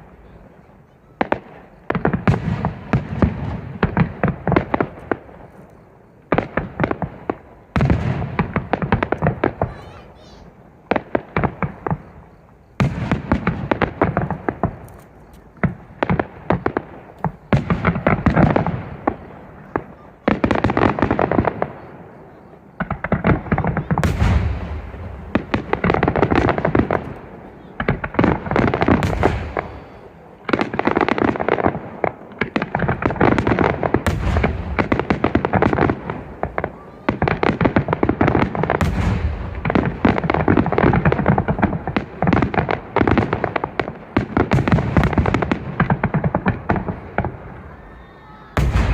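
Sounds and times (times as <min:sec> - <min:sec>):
fireworks booms: 0:00.0 - 0:48.9
fireworks crackling pops: 0:00.0 - 0:48.9.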